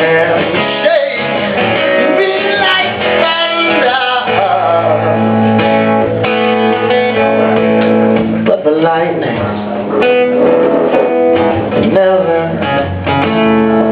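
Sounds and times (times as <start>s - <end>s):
guitar: 0.0s - 13.9s.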